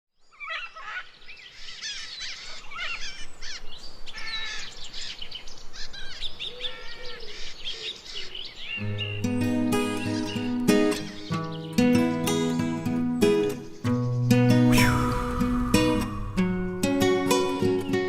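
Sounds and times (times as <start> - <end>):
birds chirping and whistling: 0.2 - 17.6.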